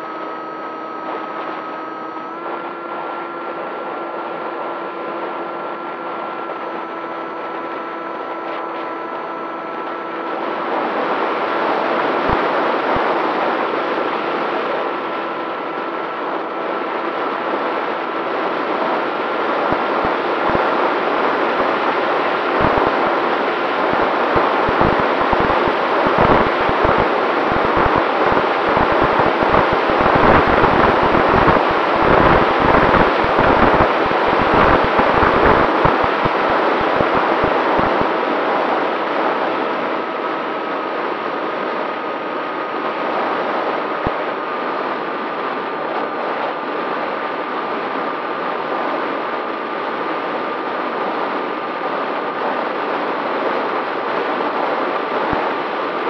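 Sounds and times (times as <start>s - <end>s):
wind gusting on microphone: 7.6s - 56.0s.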